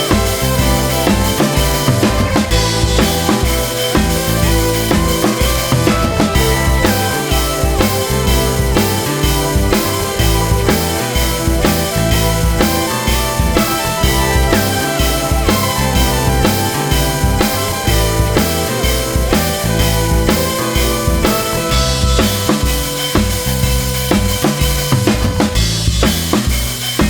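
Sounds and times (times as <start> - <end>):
drum-kit beat: 0.0 - 27.0.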